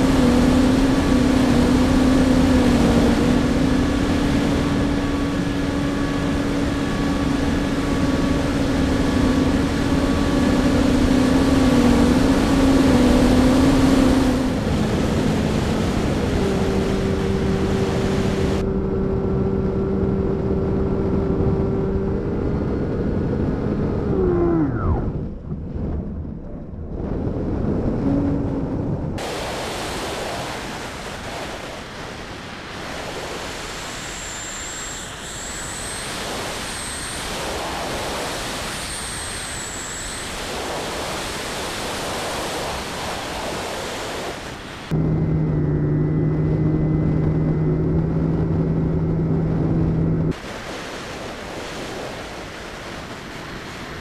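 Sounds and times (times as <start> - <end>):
propeller motor humming: 0.0 - 26.9, 27.7 - 54.0
wind rushing over airframe: 0.0 - 54.0.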